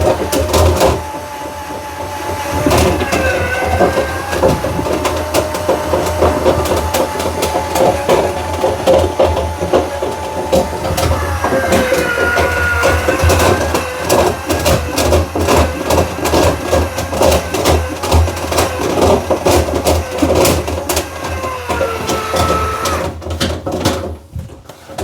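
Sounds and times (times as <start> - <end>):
power drill motor whine: 0.0 - 23.2
rods rattling in duct: 0.0 - 23.2.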